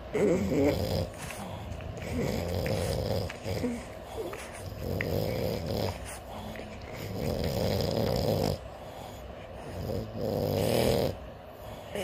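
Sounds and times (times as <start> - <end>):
dog snoring: 0.0 - 12.0.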